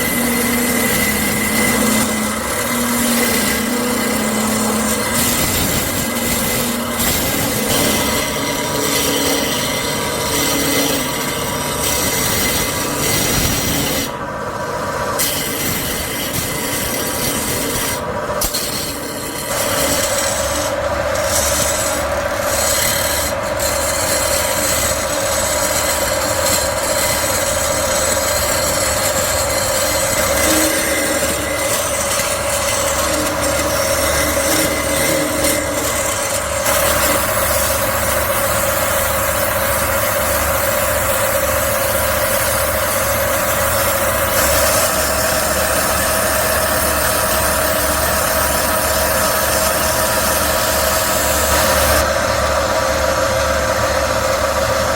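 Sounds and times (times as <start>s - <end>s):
power tool grinding metal: 0.0s - 54.9s.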